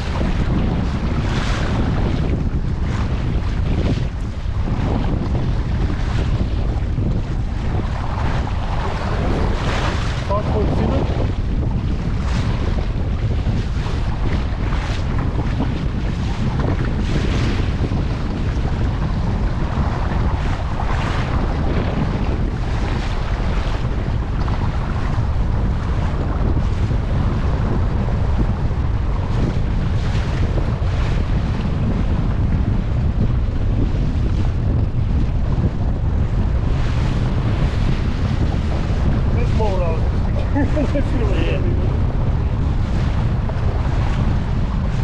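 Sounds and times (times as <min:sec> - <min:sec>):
rushing water and waves: 0:00.0 - 0:45.0
wind buffeting microphone: 0:00.0 - 0:45.0.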